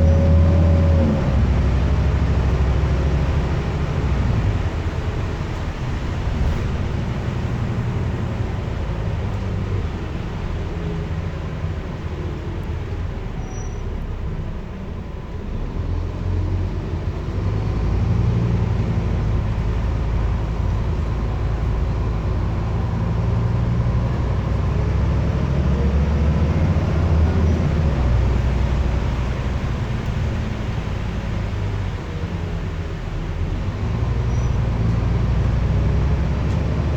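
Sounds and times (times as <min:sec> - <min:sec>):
bus diesel engine accelerating: 0:00.0 - 0:36.9.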